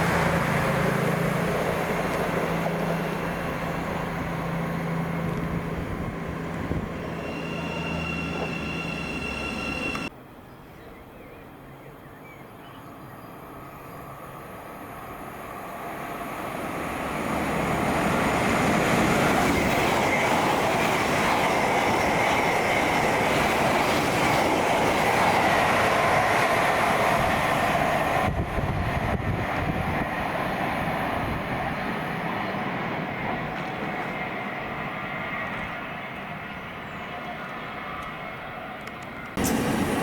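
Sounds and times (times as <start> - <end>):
wheels rushing on rail: 0.0 - 10.2, 12.5 - 40.0
fast train passing: 0.0 - 10.4, 12.9 - 40.0.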